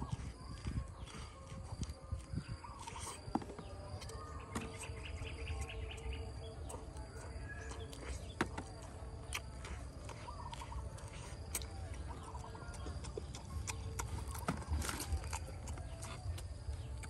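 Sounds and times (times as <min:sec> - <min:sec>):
birds chirping: 0:00.0 - 0:17.0
insects singing: 0:00.0 - 0:17.0
person chewing corn: 0:00.0 - 0:17.0.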